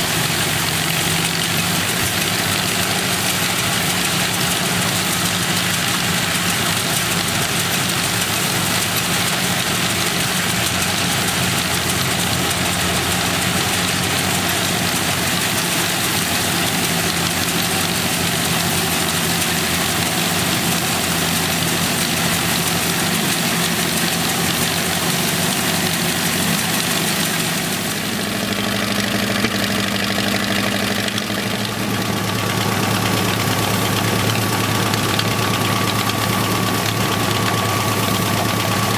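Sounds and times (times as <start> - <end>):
combine harvester engine clatter: 0.0 - 38.9.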